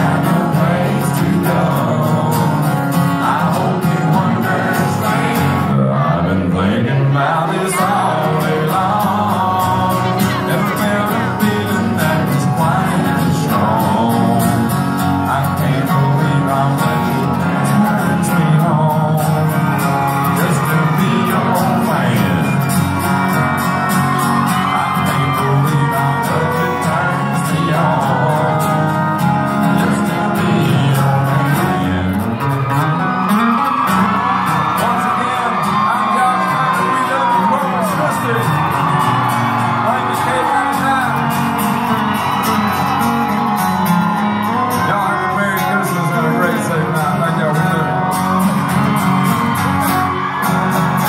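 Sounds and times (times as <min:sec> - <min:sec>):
man singing into a microphone: 0:00.0 - 0:23.0, 0:24.4 - 0:32.4, 0:34.6 - 0:41.3, 0:44.5 - 0:48.1
strummed acoustic guitars: 0:00.0 - 0:51.0.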